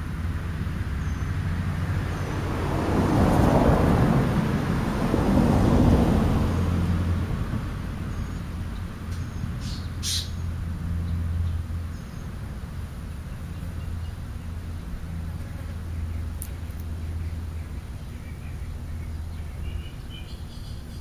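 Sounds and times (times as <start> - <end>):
low vehicle rumble: 0.0 - 21.0.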